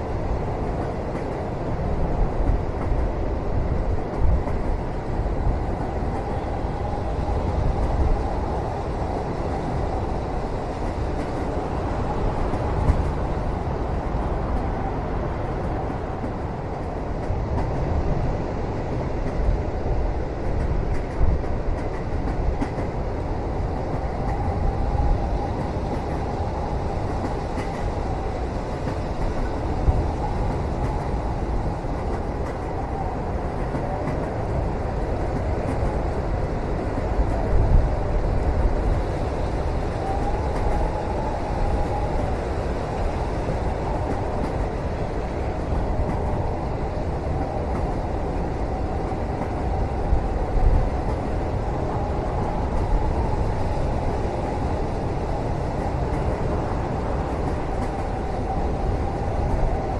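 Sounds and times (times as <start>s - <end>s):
train car rumbling on rails: 0.0s - 59.9s.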